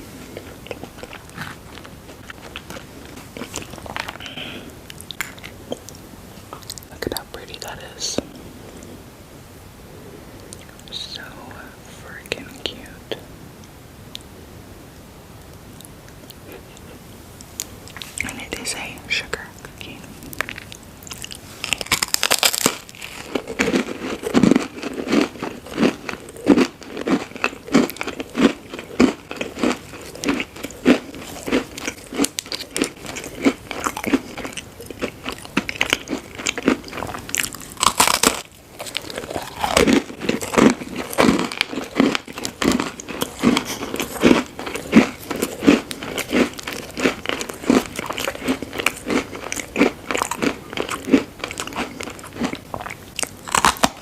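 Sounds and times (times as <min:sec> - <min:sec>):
chewing crunchy food: 0:00.2 - 0:07.9, 0:15.5 - 0:19.0, 0:19.8 - 0:54.0.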